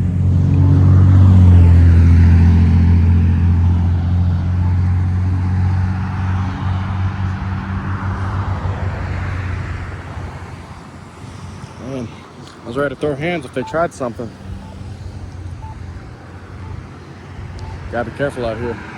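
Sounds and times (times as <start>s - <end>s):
vehicle engine humming: 0.0s - 18.9s.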